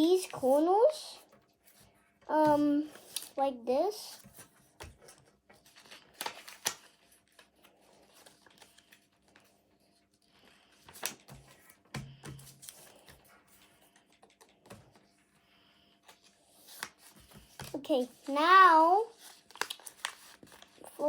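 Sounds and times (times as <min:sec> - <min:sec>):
paper rustling and creasing: 0:00.0 - 0:15.3, 0:16.0 - 0:21.0.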